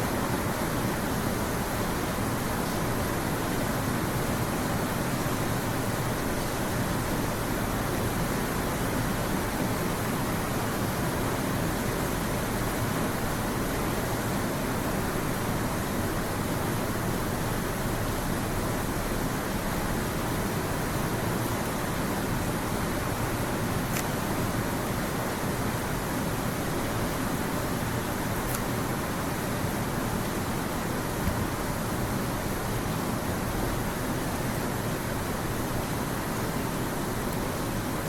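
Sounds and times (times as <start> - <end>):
steady hiss-like noise: 0.0 - 38.0.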